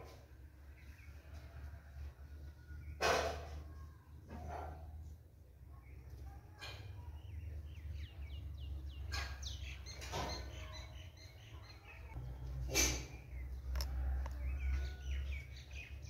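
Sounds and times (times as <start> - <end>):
small birds chirping: 2.8 - 16.0.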